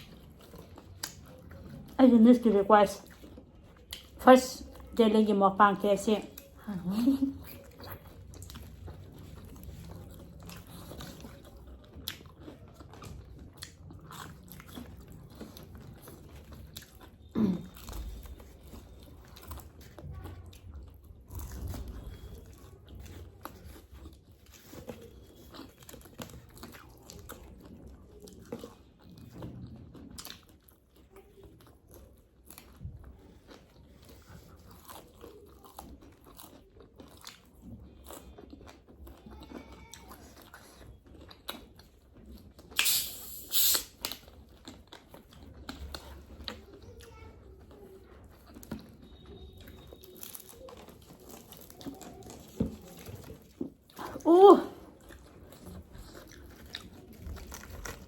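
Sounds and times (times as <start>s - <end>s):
crunching and chewing food: 0.0s - 58.0s.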